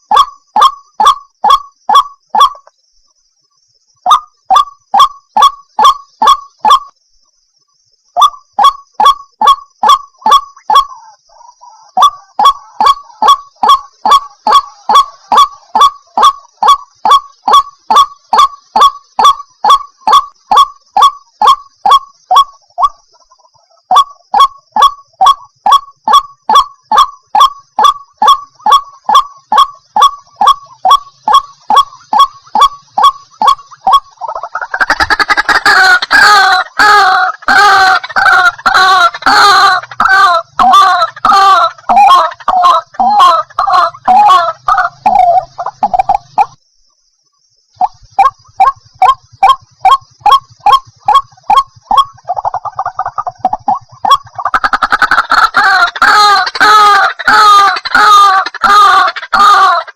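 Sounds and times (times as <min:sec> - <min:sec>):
waterhen calling: 0:00.0 - 0:02.7, 0:04.0 - 0:06.9, 0:08.2 - 0:46.6, 0:47.8 - 0:59.9.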